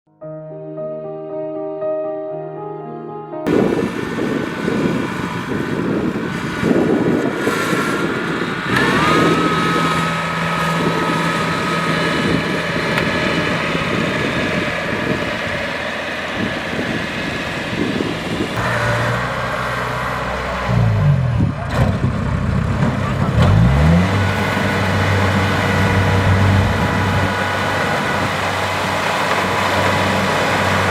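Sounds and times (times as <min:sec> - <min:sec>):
threshing machinery rattling: 0:03.5 - 0:20.6, 0:21.3 - 0:30.9
whine: 0:03.5 - 0:23.5, 0:24.1 - 0:30.9
diesel engine running: 0:03.5 - 0:30.9.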